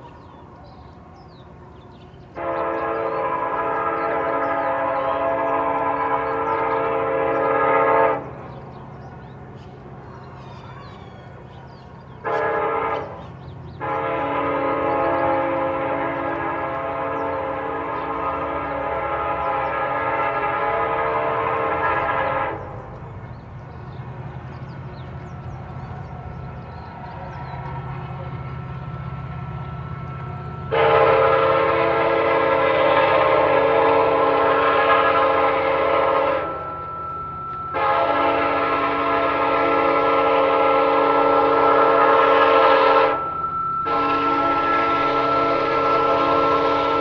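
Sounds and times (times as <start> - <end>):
train rumbling past: 0.0 - 47.0
train horn blasts: 2.2 - 8.7, 12.0 - 47.0.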